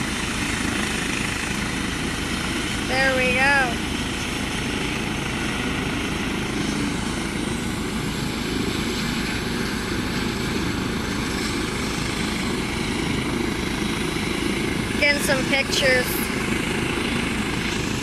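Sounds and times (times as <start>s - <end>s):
helicopter engine and rotor running: 0.0s - 18.0s.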